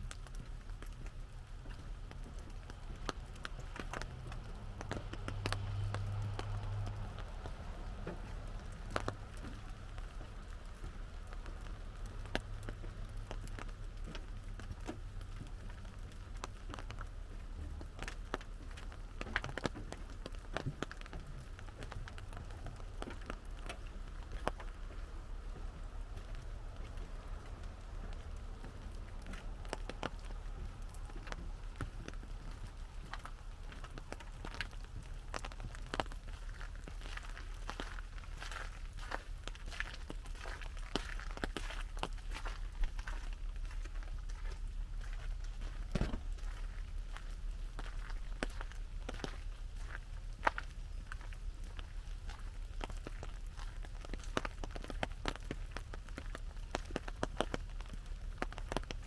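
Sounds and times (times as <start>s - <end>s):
low rumble: 0.0s - 59.0s
raindrops ticking on umbrella: 0.0s - 59.0s
steady hiss of rain: 0.0s - 59.0s.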